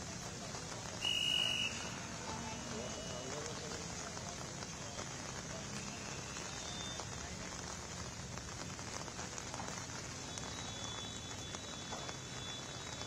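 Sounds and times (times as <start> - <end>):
rain on a wet road: 0.0 - 13.0.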